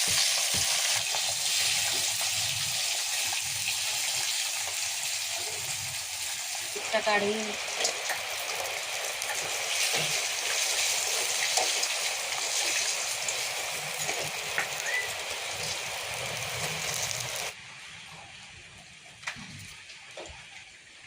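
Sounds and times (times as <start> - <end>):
fish sizzling in hot oil: 0.0 - 17.6.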